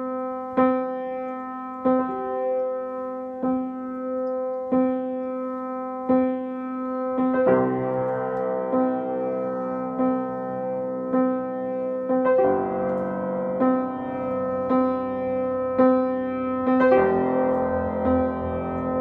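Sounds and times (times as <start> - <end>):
upright piano played slowly: 0.0 - 19.0
deep bass piano notes: 3.4 - 19.0.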